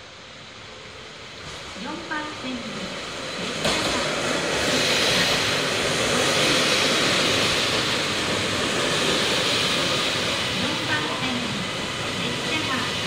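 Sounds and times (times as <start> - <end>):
electric train passing: 0.0 - 13.0
wheels rushing on rails: 1.4 - 13.0.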